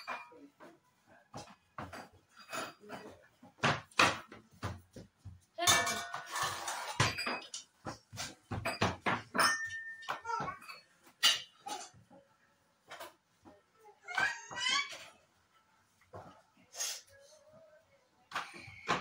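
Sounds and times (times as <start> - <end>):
kitchen utensils clinking and knocking: 0.0 - 16.4.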